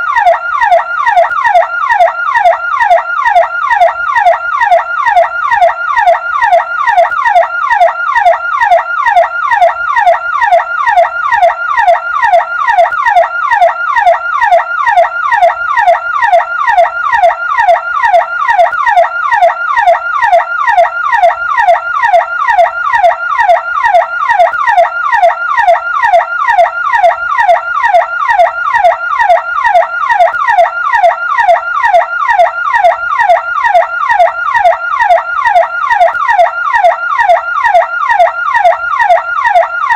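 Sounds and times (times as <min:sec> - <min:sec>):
ambulance siren yelp: 0:00.0 - 0:39.9.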